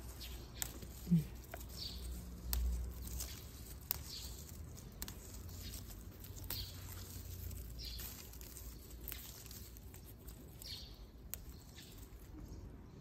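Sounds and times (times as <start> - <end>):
leaves rustling and snapping: 0.0 - 12.7
bird chirping: 0.0 - 13.0.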